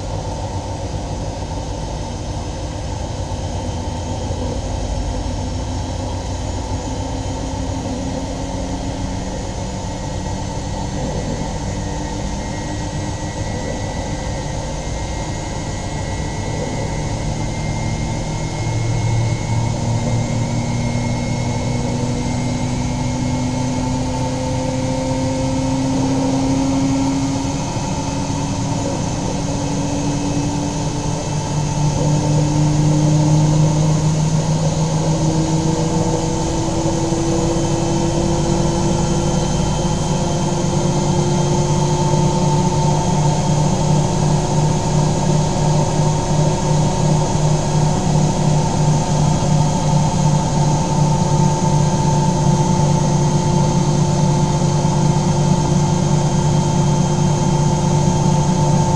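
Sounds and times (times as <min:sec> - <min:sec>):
washing machine running: 0:00.0 - 0:58.9.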